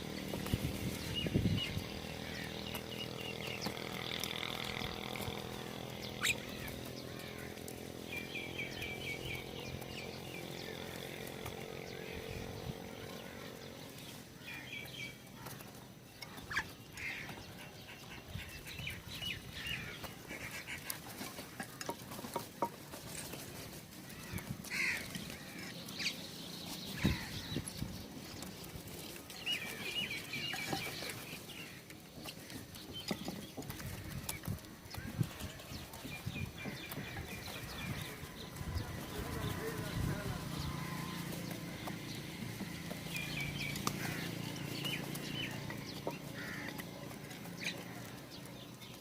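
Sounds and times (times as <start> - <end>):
birds chirping and clucking: 0.0 - 49.0.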